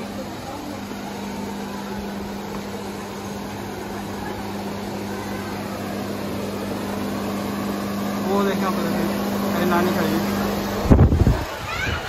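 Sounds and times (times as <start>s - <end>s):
crowd noise: 0.0s - 12.0s
steady low hum: 0.0s - 12.0s.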